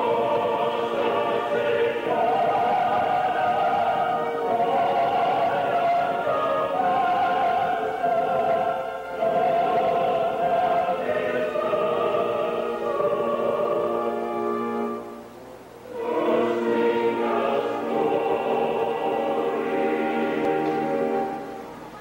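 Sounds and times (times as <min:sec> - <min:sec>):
choir singing: 0:00.0 - 0:22.0
orchestral accompaniment: 0:00.0 - 0:22.0.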